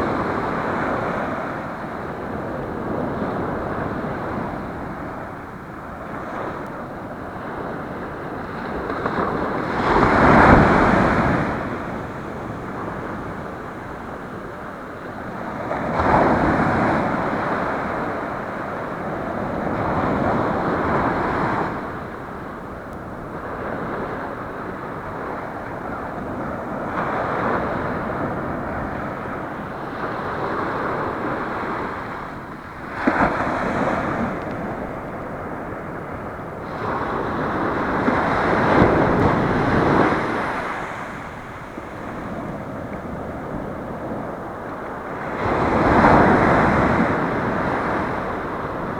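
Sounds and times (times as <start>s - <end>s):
ocean waves breaking on shore: 0.0s - 48.9s
wind on microphone: 0.0s - 48.9s.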